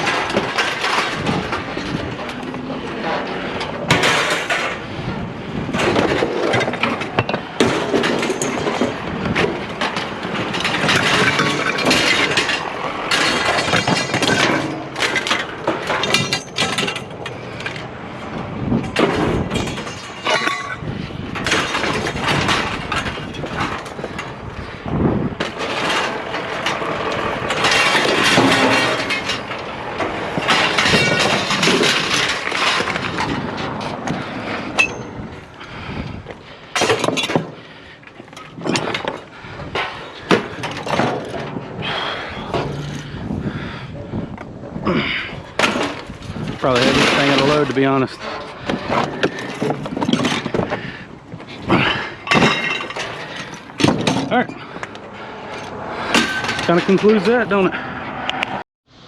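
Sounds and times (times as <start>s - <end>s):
scrap metal clattering onto pile: 0.0s - 17.9s, 18.8s - 35.5s, 36.7s - 43.2s, 45.0s - 54.8s, 55.4s - 57.7s.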